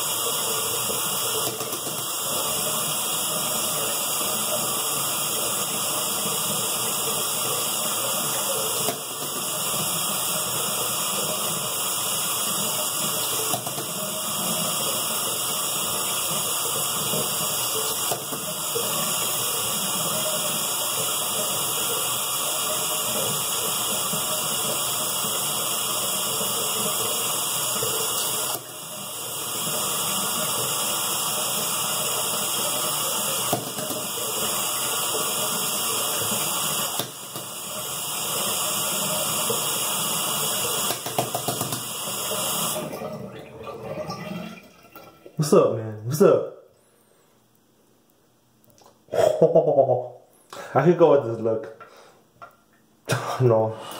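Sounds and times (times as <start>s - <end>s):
tap water running into sink: 0.0s - 45.5s.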